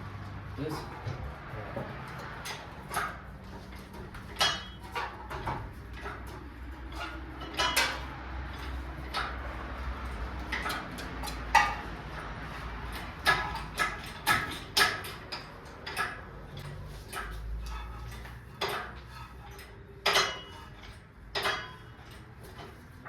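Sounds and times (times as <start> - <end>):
metallic clanks and clinks: 0.6 - 23.0.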